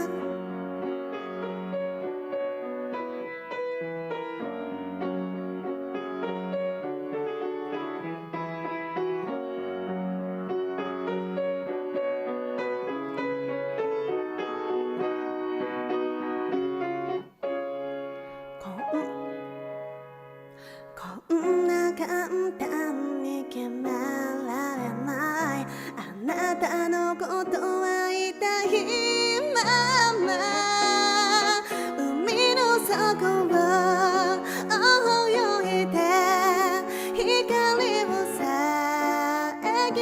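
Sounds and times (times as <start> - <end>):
piano playing: 0.0 - 40.0.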